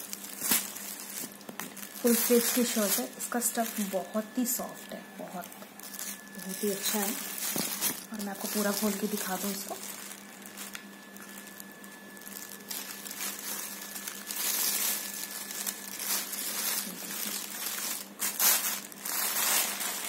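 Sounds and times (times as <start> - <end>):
shirt rustling and crinkling: 0.0 - 20.0.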